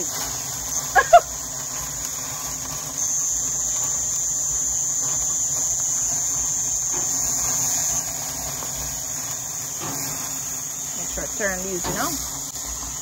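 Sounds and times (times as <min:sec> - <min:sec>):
insect trilling: 0:00.0 - 0:13.0.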